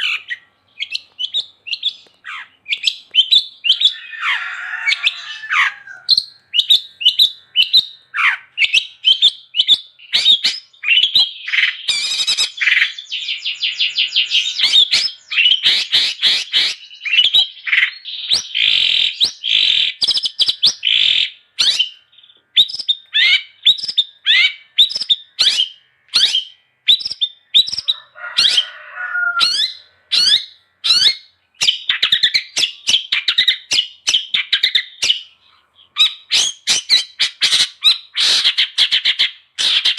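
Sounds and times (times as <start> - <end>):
harsh rasping bird chatter: 0.0 - 39.9
shrike chirps and trills: 0.0 - 39.9.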